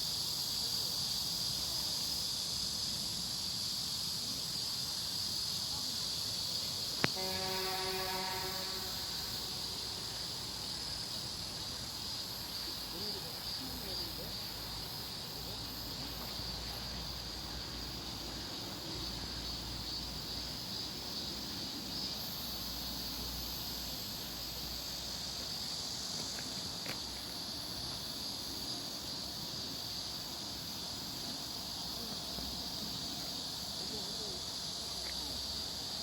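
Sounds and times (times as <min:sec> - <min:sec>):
insect chorus drone: 0:00.0 - 0:36.0.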